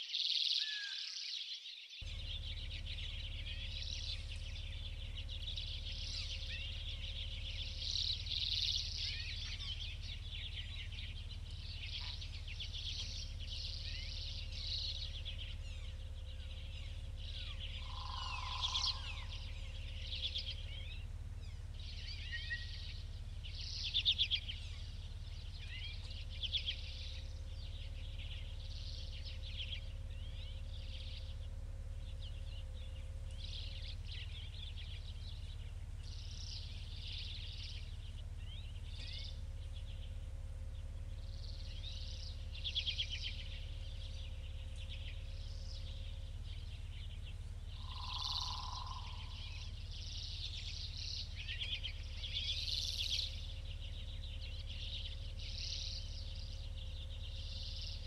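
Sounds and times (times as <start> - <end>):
lower bird call: 0.0 - 58.0
small birds chirping: 0.0 - 58.0
steady low hum: 2.0 - 58.0.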